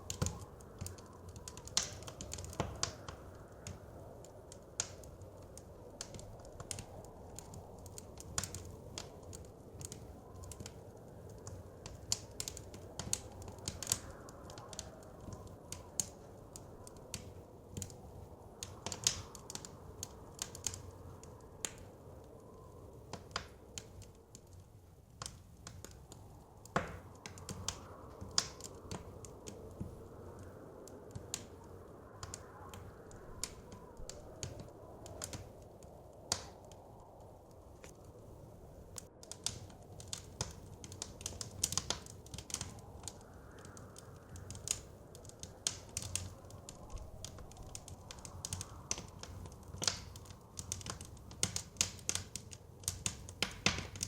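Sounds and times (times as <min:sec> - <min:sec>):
soft blizzard wind: 0:00.0 - 0:54.0
wood fire crackling: 0:00.0 - 0:54.0.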